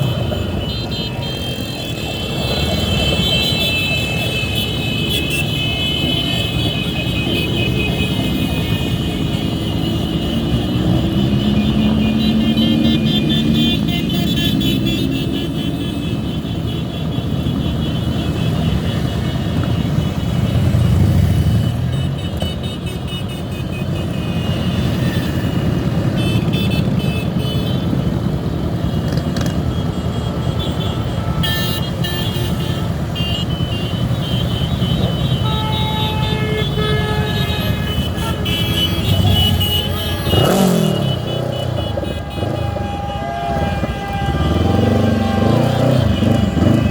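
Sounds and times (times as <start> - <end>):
motorcycle and car engines running: 0.0 - 46.9
vehicle horns honking: 0.0 - 46.9.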